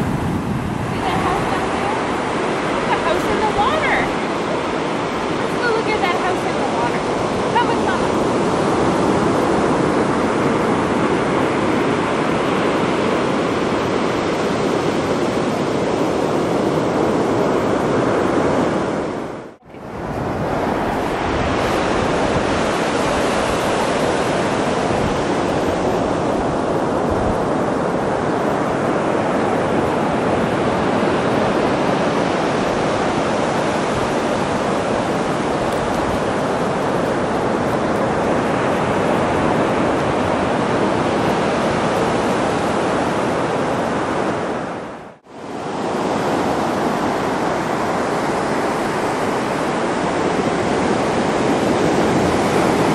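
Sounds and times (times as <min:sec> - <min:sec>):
surf waves breaking: 0:00.0 - 0:52.9.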